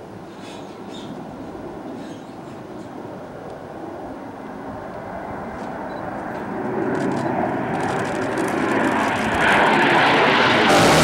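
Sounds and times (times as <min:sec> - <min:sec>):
jet flying low: 0:00.0 - 0:11.0.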